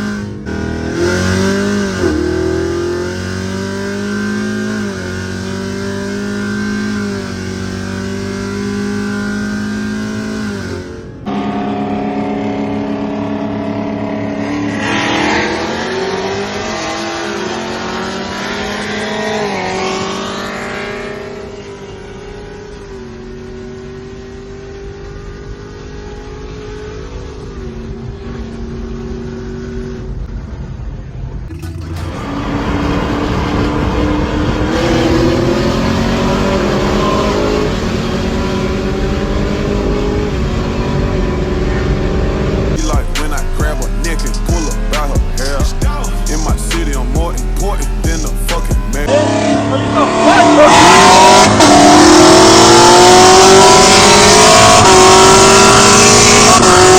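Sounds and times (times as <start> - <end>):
car engines accelerating: 0.0 - 56.9.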